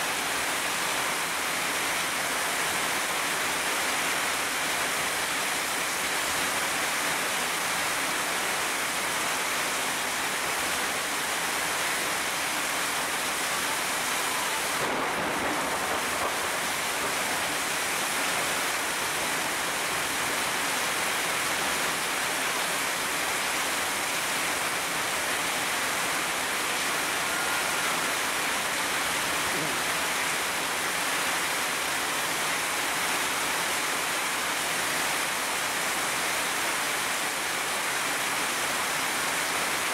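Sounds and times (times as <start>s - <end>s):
heavy rain on trees: 0.0s - 39.9s.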